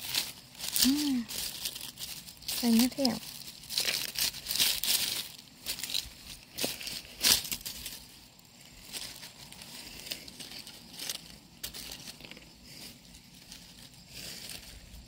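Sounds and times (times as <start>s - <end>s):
dry leaves rustling: 0.0s - 15.0s.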